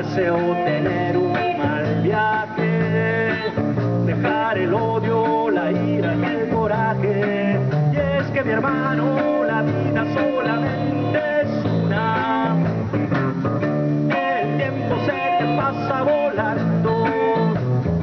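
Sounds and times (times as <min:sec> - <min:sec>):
man singing: 0:00.0 - 0:12.8, 0:14.1 - 0:17.6
drum kit: 0:00.0 - 0:18.0
electric guitar through amplifier: 0:00.0 - 0:18.0.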